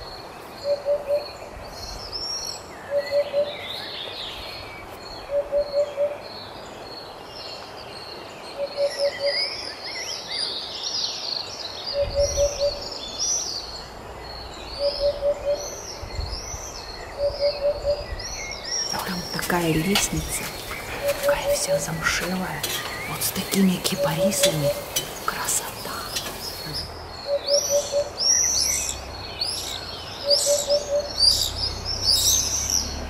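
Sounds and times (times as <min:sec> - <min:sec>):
birds chirping song: 0:00.0 - 0:33.0.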